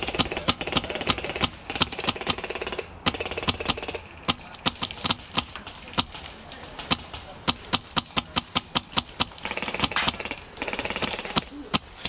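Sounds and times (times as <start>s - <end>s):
airsoft single shots: 0.0s - 12.0s
rapid full-auto fire: 0.0s - 12.0s.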